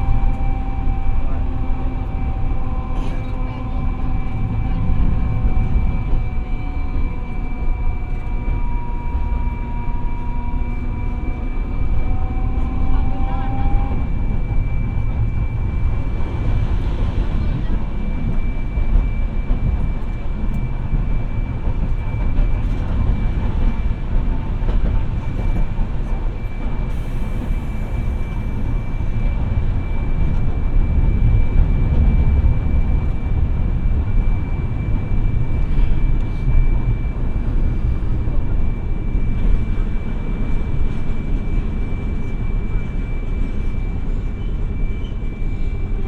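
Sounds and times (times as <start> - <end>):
tram wheels and motors rumbling: 0.0 - 46.0.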